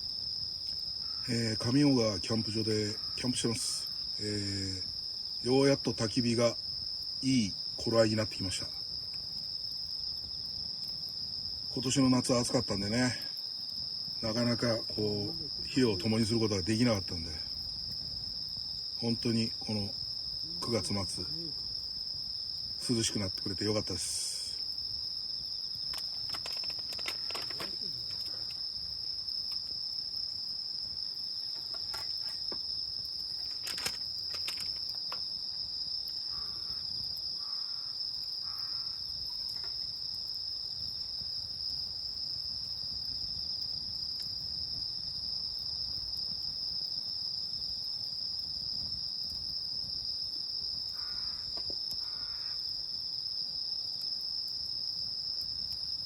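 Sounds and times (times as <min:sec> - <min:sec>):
crickets trilling: 0:00.0 - 0:56.0
campfire crackling and popping: 0:01.9 - 0:37.4, 0:39.1 - 0:56.0.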